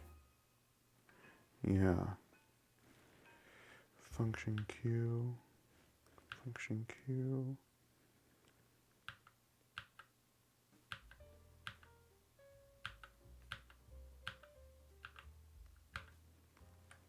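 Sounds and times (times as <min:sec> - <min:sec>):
faint low tones: 0:00.0 - 0:07.8, 0:10.8 - 0:17.0.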